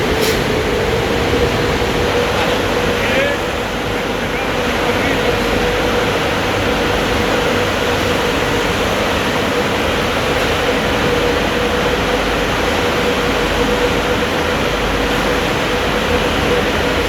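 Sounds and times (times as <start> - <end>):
automatic car wash running: 0.0 - 17.0.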